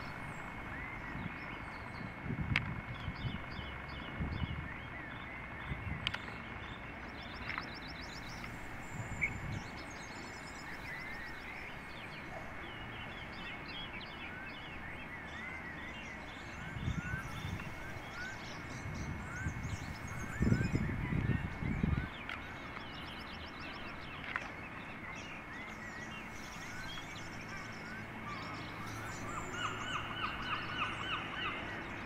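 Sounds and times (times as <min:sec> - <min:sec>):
low rumbles: 0:00.0 - 0:32.0
outdoor background noise: 0:00.0 - 0:32.0
songbirds chirping: 0:00.0 - 0:32.0.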